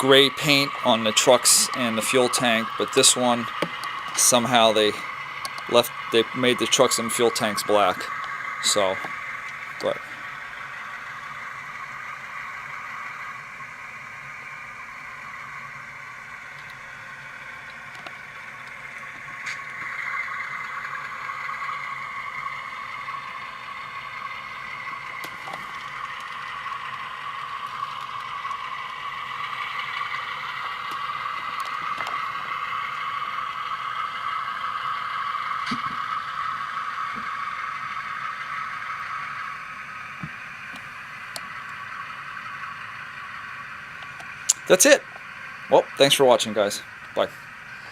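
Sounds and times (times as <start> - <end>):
diesel engine sound from small speaker: 0.0 - 47.9.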